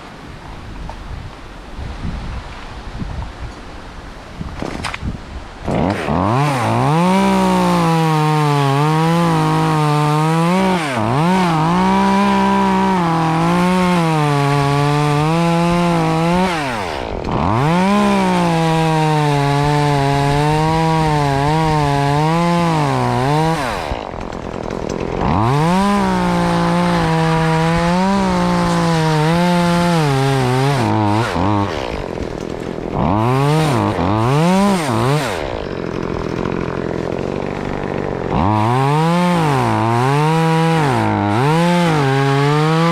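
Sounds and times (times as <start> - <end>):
chainsaw cutting: 4.6 - 42.9.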